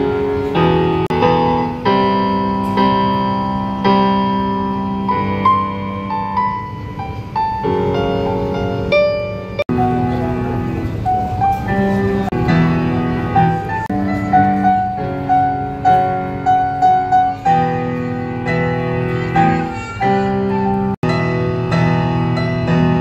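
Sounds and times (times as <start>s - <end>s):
electronic keyboard piano melody: 0.0s - 23.0s.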